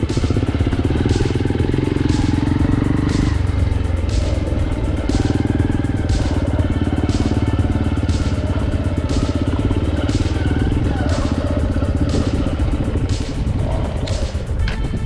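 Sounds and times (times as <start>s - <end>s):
background music with beat: 0.0s - 15.0s
motorcycle engine running: 0.0s - 15.0s.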